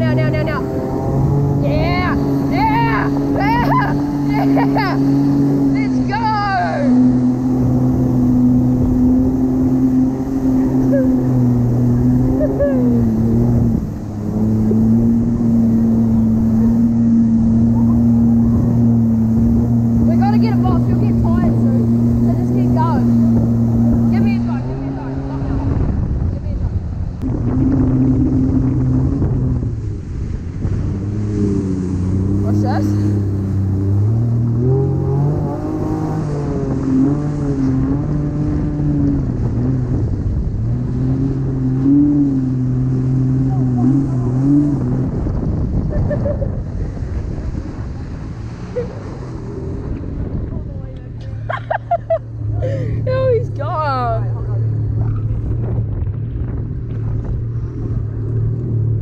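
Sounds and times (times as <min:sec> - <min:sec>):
jet ski engine running: 0:00.0 - 0:59.0
water rushing: 0:00.0 - 0:59.0
wind on microphone: 0:00.0 - 0:59.0.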